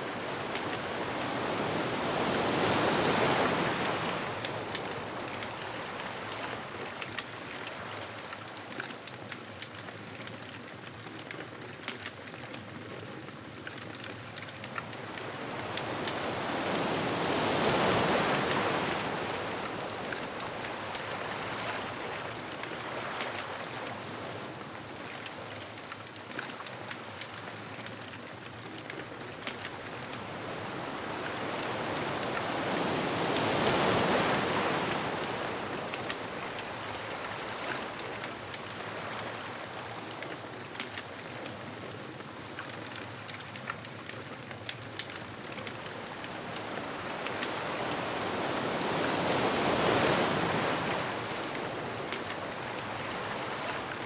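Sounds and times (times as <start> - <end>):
ocean waves washing onto beach: 0.0 - 54.0
bonfire crackling: 0.2 - 54.0.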